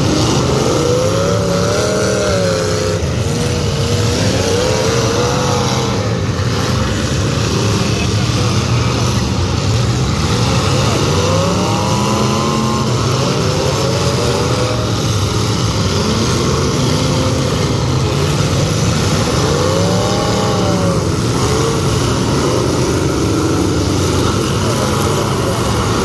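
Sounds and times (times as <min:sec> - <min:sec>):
car engines revving loudly: 0:00.0 - 0:26.0.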